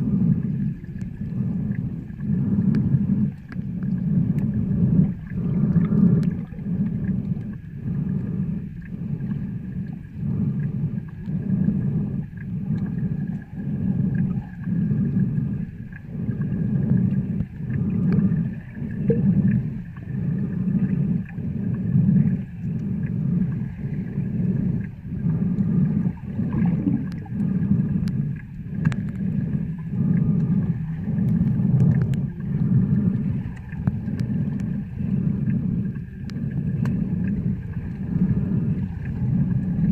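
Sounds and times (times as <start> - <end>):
muffled underwater rumble: 0.0 - 39.9
faint clicks: 0.4 - 20.0, 24.5 - 38.4.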